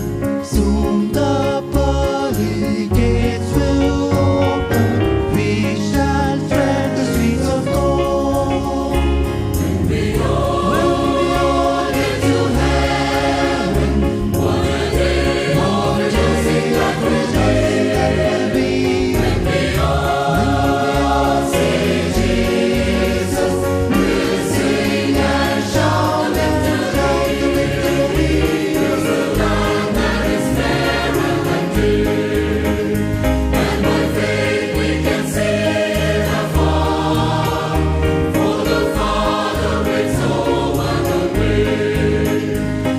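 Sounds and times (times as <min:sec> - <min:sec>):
choir singing a hymn: 0:00.0 - 0:42.9
low bass accompaniment: 0:00.0 - 0:42.9.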